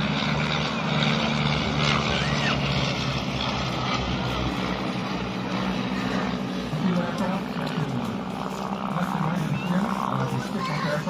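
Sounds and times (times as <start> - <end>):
propeller planes droning overhead: 0.0 - 11.0.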